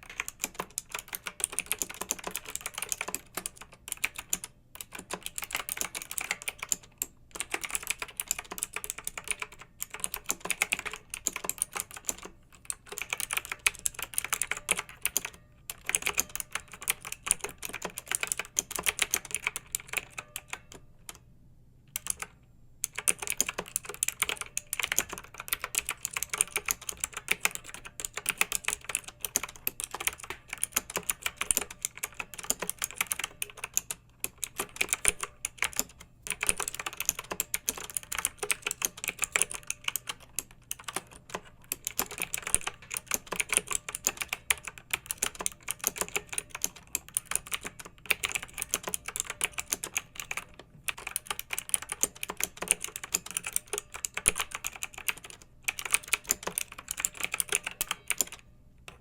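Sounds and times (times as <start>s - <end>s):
mechanical keyboard typing: 0.0s - 21.2s, 21.9s - 59.0s.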